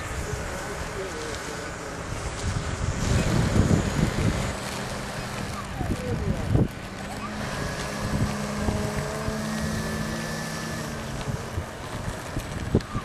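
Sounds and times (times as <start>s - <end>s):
model jet motor humming: 0.1s - 13.0s.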